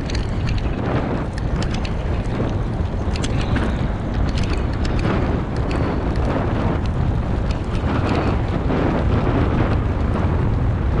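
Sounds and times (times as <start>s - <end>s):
bike tyre noise: 0.0s - 11.0s
small clicks and rattles: 0.0s - 11.0s
wind on microphone: 0.0s - 11.0s.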